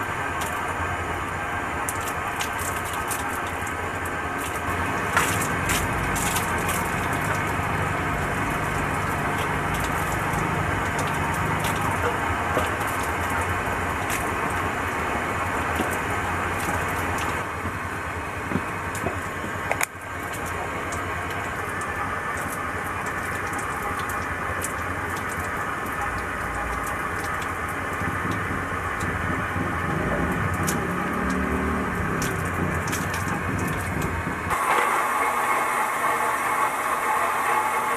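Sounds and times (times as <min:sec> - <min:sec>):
motor hum with hiss: 0:00.0 - 0:37.9.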